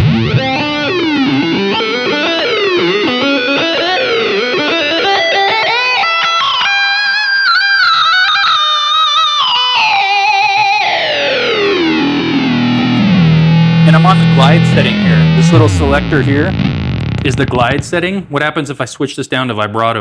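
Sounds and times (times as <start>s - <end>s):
electric guitar synth tones: 0.0s - 18.4s.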